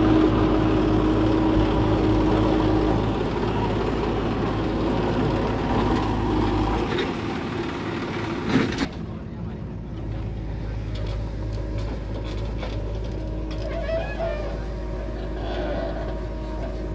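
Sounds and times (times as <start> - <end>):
diesel engine running: 0.0 - 16.9
steady whine: 0.0 - 16.9.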